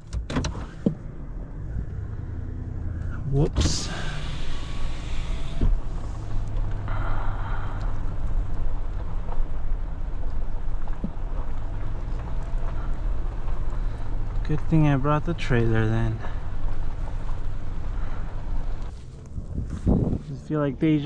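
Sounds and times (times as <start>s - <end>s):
pickup truck engine running: 0.0s - 21.0s.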